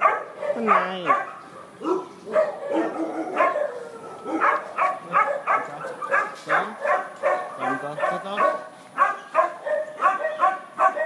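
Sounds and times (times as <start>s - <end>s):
dog barking: 0.0s - 11.0s.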